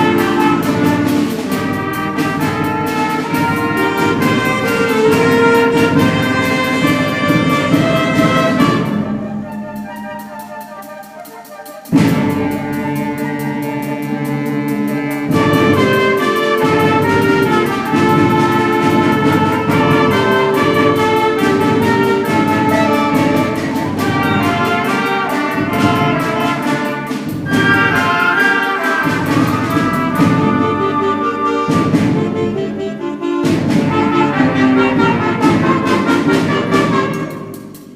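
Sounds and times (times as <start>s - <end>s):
brass: 0.0s - 37.9s
concert band playing: 0.0s - 37.9s.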